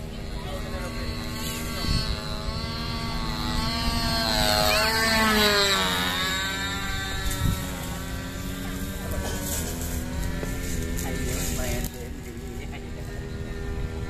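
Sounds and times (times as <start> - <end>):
model aircraft engine passing: 0.0 - 14.0.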